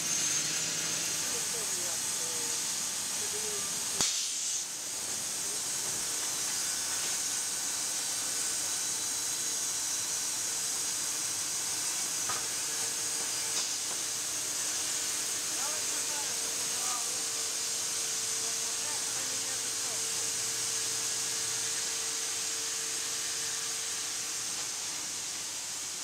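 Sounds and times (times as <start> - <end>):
sawmill machinery hissing: 0.0 - 26.0.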